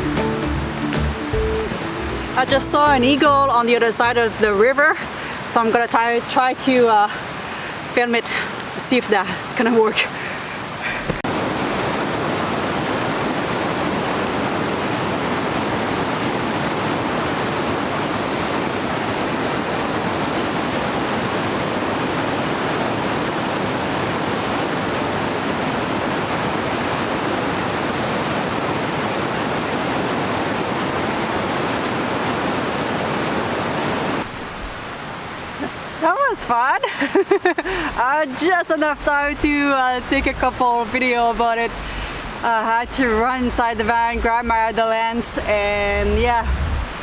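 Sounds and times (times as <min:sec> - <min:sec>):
river rushing: 0:00.0 - 0:47.0.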